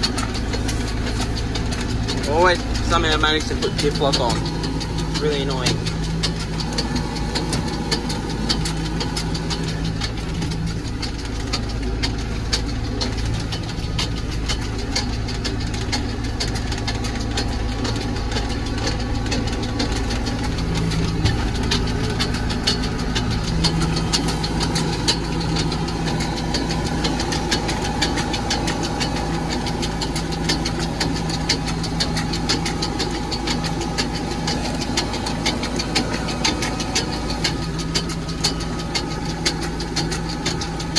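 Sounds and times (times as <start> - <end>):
fast rattle and clicking: 0.0 - 40.9
tractor diesel engine running: 0.0 - 40.9.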